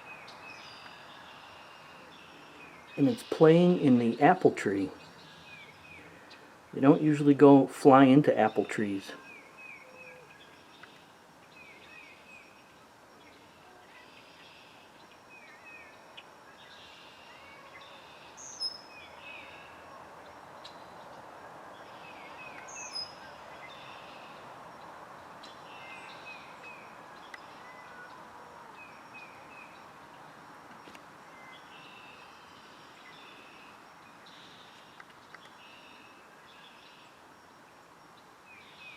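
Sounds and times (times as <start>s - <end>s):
outdoor background noise: 0.0s - 38.9s
small birds chirping: 0.0s - 38.9s.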